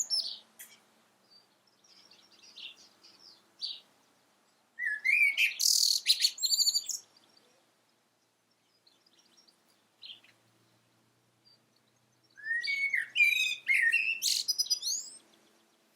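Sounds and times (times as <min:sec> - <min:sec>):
blackbird singing: 0:00.0 - 0:10.8, 0:11.4 - 0:15.9.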